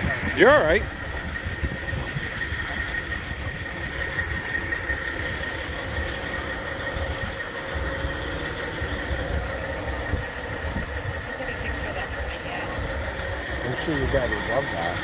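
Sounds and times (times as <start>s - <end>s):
wind rumbling on microphone: 0.0s - 14.2s
engine hum with whine: 0.0s - 15.0s.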